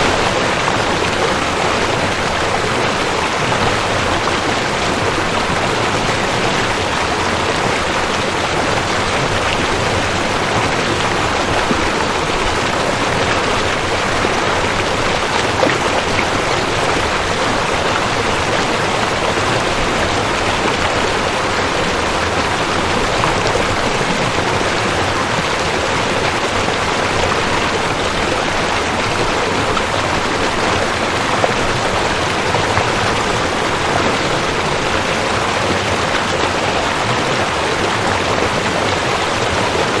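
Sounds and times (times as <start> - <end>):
creek water rushing over rocks: 0.0 - 40.0.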